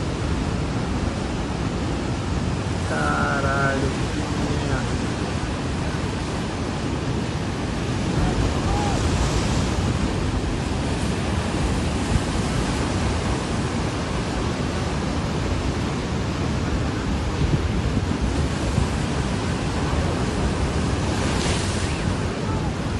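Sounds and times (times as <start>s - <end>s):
ocean surf rushing: 0.0s - 22.9s
wind buffeting microphone: 3.8s - 22.9s.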